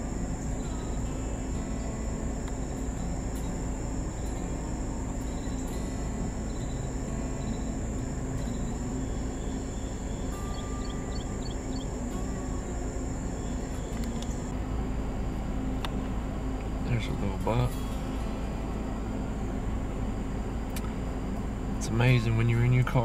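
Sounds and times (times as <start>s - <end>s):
car engine idling: 0.0s - 23.0s
insect chorus: 0.0s - 23.0s.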